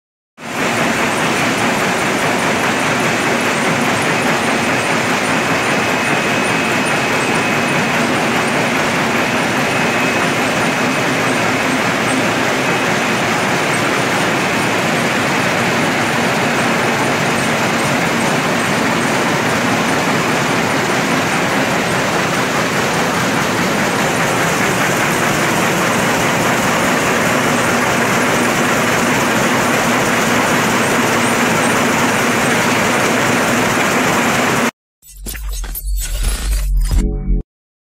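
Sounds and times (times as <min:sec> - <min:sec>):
net making machine running: 0:00.4 - 0:34.7.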